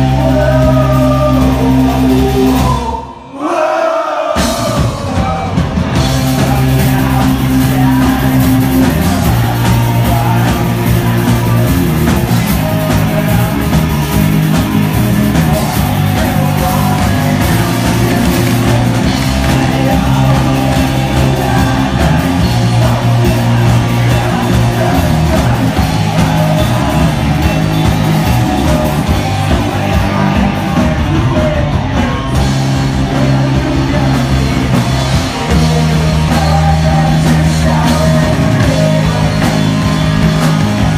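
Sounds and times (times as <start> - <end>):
electric guitars: 0.0 - 2.9, 4.7 - 40.9
bass: 0.0 - 3.3, 4.4 - 40.9
drums: 0.0 - 40.9
man singing into microphone: 0.0 - 40.9.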